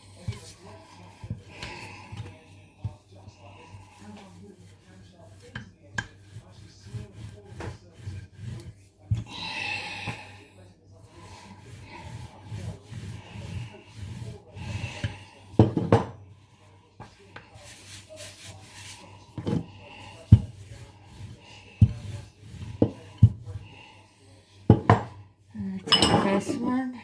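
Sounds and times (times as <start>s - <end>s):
rolling pin rubbing on pastry: 0.0s - 25.5s.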